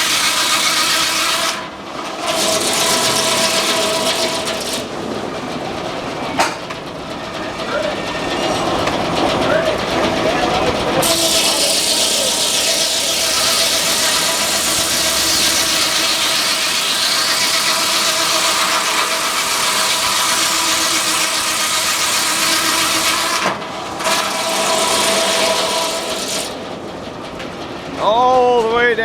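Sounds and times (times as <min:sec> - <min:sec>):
circular saw cutting log: 0:00.0 - 0:26.8.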